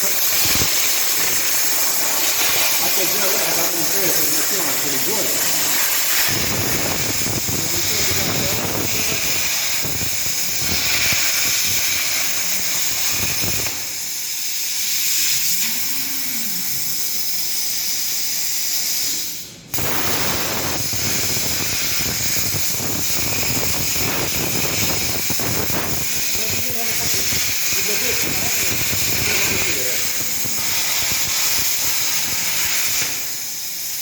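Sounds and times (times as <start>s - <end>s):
plasma torch hissing: 0.0s - 34.0s.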